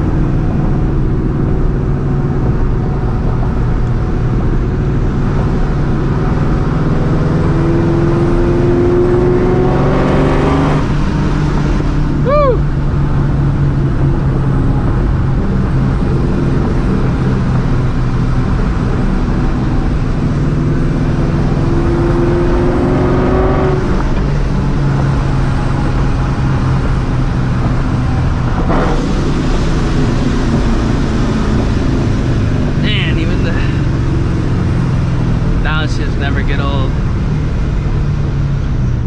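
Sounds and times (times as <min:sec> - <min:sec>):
car engine running: 0:00.0 - 0:39.0
road noise: 0:00.0 - 0:39.0.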